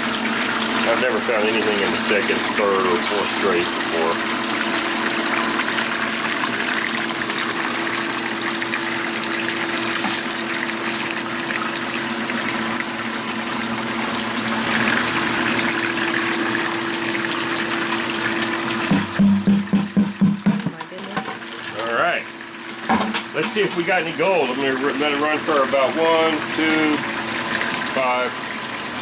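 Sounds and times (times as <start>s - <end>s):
water gushing and splashing: 0.0s - 20.6s, 21.3s - 29.0s
water pump humming: 0.0s - 29.0s.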